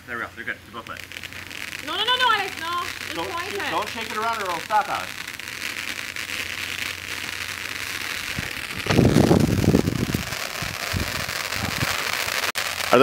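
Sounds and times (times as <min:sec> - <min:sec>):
sparklers fizzing: 0:00.0 - 0:13.0.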